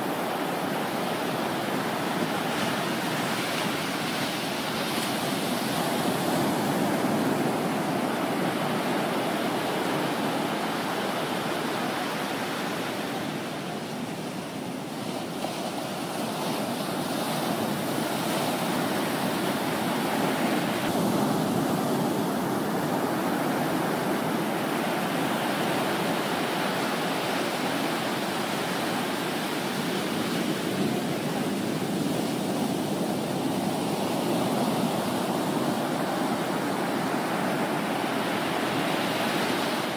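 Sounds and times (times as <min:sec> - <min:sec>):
breaking waves washing in: 0:00.0 - 0:39.9.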